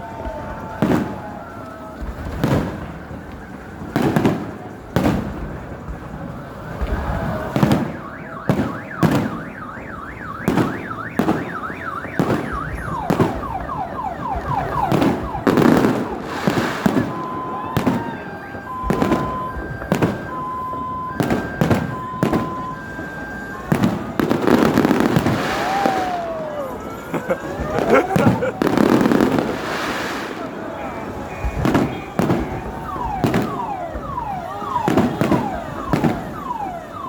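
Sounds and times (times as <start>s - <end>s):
fireworks bangs: 0.0s - 37.0s
car alarm: 7.0s - 37.0s.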